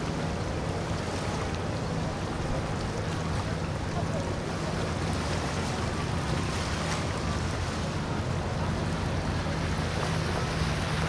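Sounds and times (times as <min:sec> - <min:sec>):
water wash: 0:00.0 - 0:11.0
watercraft engine idling: 0:00.0 - 0:11.0.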